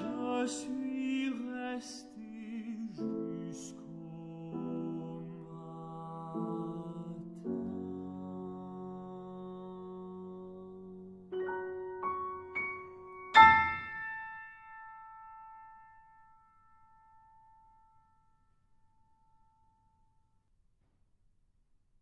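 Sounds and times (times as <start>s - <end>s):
piano playing: 0.0s - 18.3s.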